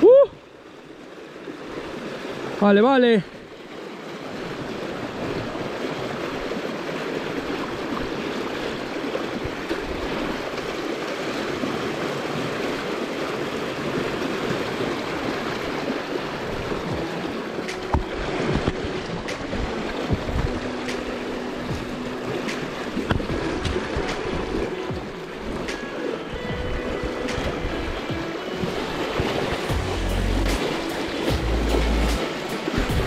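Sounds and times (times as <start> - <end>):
river rushing over stones: 0.5 - 33.0.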